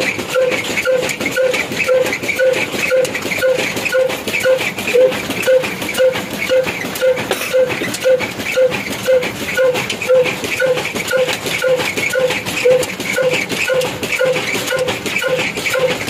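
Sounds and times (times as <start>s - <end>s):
fine continuous clatter: 0.0s - 16.0s
oil expeller mechanical beat: 0.0s - 16.0s.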